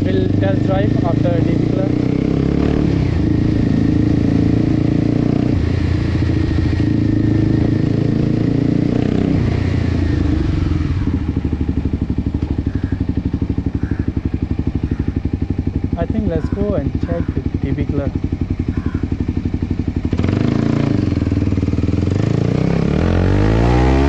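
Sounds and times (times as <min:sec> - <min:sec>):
loud motorcycle engine idling: 0:00.0 - 0:02.4, 0:03.1 - 0:08.2, 0:09.7 - 0:22.4.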